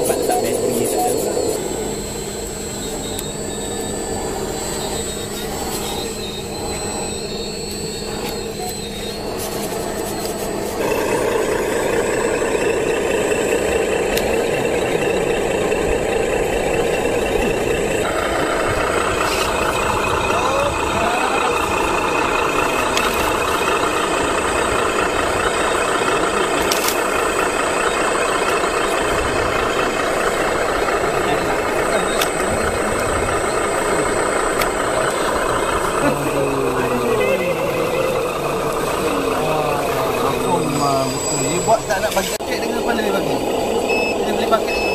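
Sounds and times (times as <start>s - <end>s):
hydraulic pump and motors running: 0.0s - 44.9s.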